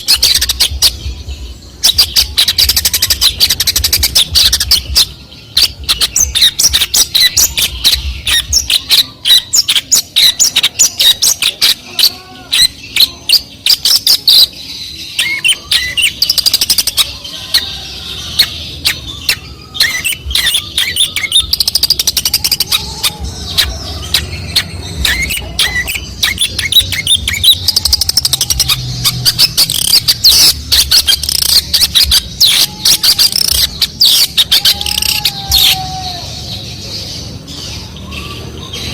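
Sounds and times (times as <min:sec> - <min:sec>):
bird singing with chattering notes: 0:00.0 - 0:38.9.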